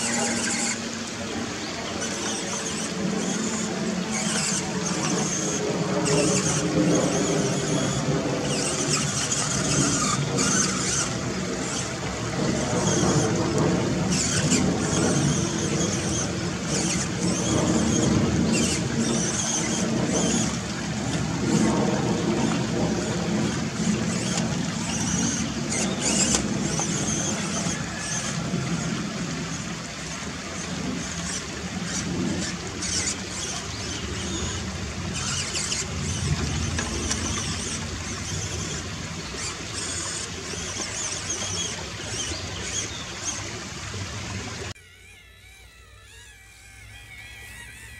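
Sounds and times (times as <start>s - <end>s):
running water: 0.0s - 47.9s
toy truck motor whining: 0.0s - 47.9s.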